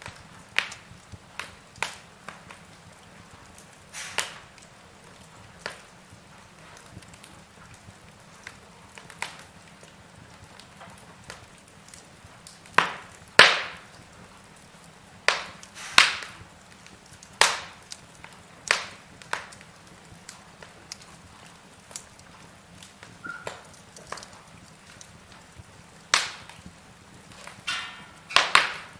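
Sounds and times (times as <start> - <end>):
logs crackling in a fireplace: 0.0 - 28.9.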